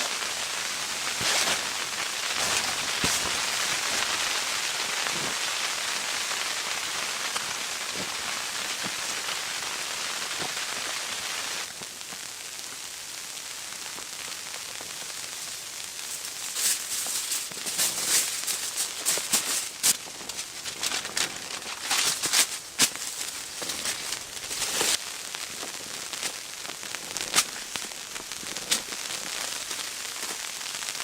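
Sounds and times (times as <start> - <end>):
rain pattering on tent fabric: 0.0 - 31.0.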